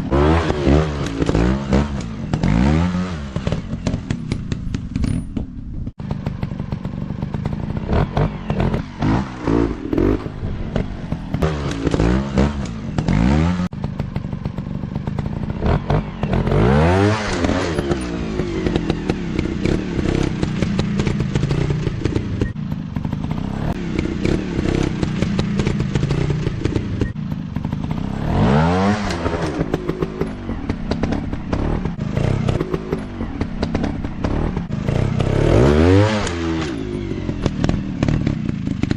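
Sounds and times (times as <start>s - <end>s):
dirt bike engines revving: 0.0s - 4.6s, 6.0s - 38.9s.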